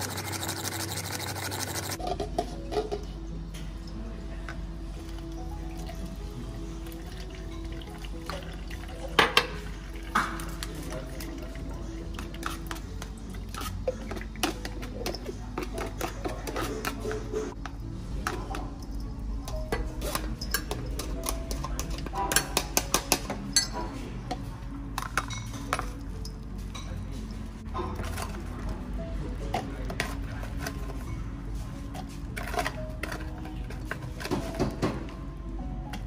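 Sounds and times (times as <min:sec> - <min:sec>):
utensils and dishes clinking: 0:00.0 - 0:04.0, 0:05.0 - 0:35.2
background music: 0:00.0 - 0:36.0.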